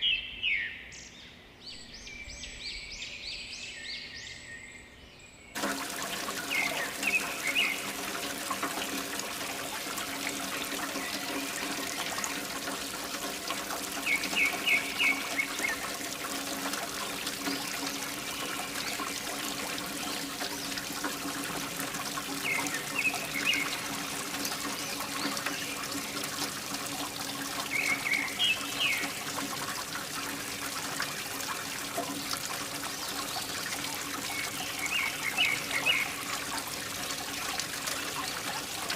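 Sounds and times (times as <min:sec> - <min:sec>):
water pouring and trickling: 0:05.6 - 0:38.9
water pump humming: 0:05.6 - 0:38.9.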